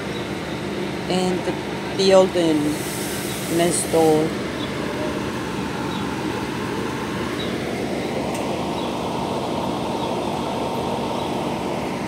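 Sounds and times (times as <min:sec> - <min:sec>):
low mechanical machine noise: 0:00.0 - 0:12.0.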